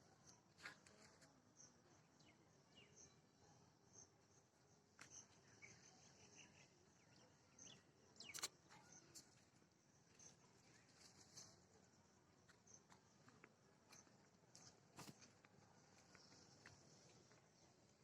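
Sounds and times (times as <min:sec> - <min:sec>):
faint high chirps: 0:00.0 - 0:14.9.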